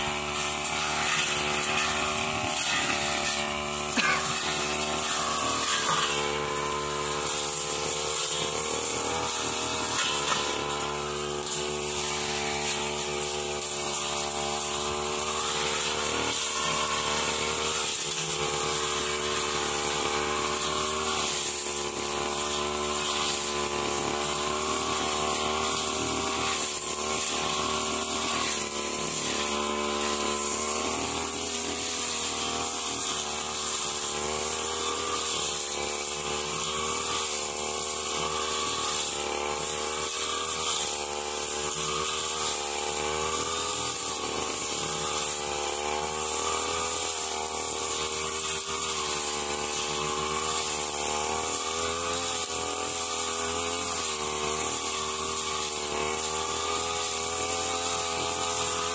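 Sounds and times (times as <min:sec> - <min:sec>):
blade cutting grass: 0:00.0 - 0:58.9
brush cutter engine running: 0:00.0 - 0:58.9.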